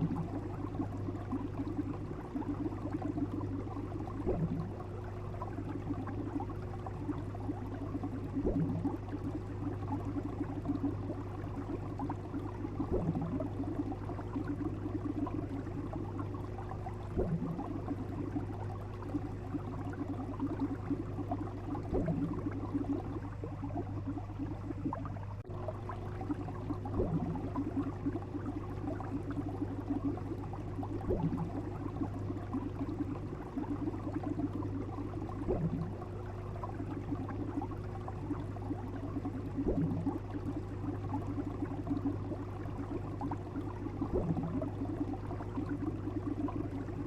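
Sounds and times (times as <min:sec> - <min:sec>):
steady low hum: 0:00.0 - 0:47.0
water bubbling and crackling: 0:00.0 - 0:47.0.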